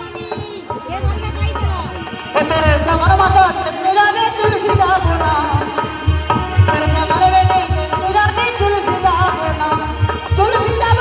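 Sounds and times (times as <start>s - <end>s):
hand drum beat: 0.0s - 11.0s.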